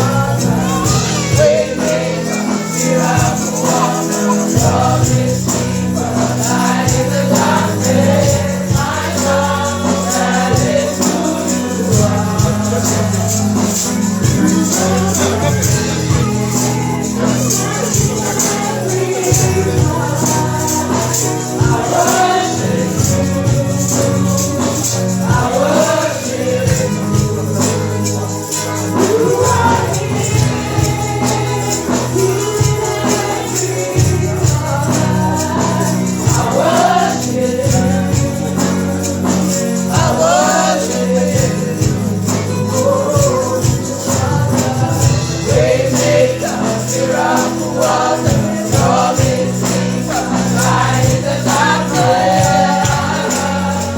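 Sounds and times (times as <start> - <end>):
choir and congregation singing: 0.0 - 53.9
tambourine beat: 0.0 - 53.9.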